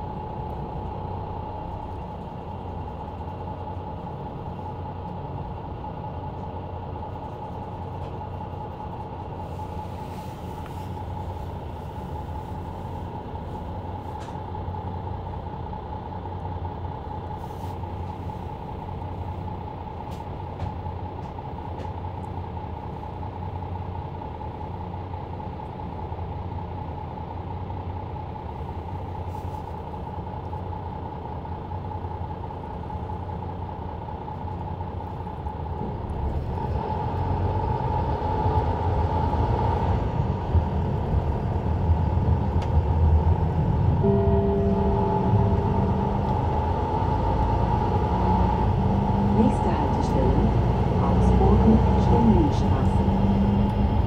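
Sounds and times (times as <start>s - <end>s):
bus engine hum and whine: 0.0s - 54.0s.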